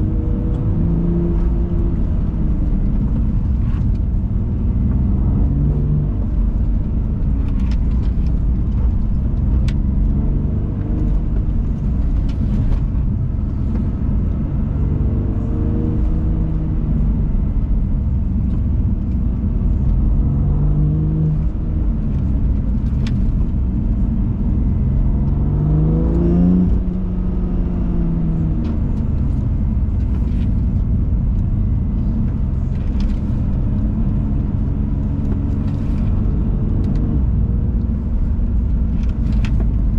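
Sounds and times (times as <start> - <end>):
car engine revving: 0.0 - 39.9
road rumble: 0.0 - 39.9.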